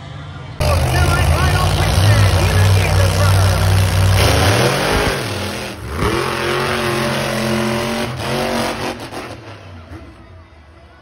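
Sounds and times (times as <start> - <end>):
truck engine revving loudly: 0.6 - 10.0.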